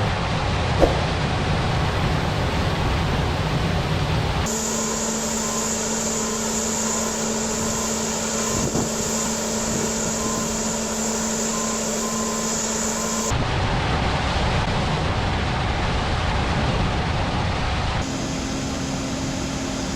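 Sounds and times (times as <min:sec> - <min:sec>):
machine humming and whining: 0:00.0 - 0:16.4, 0:17.0 - 0:19.9.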